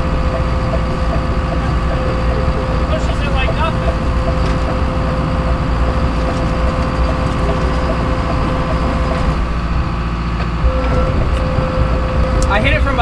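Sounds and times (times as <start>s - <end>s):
constant whine: 0.0s - 13.0s
diesel engine running: 0.0s - 13.0s.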